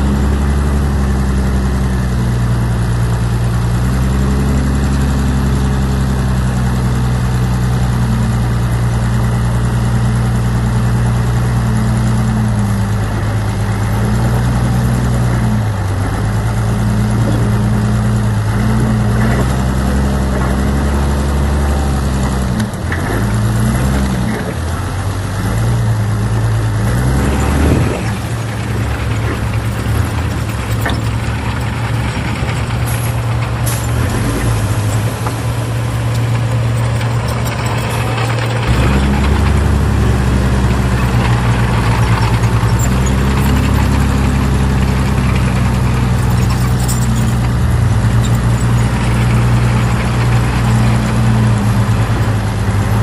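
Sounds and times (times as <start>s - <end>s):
large diesel engine running: 0.0s - 53.0s.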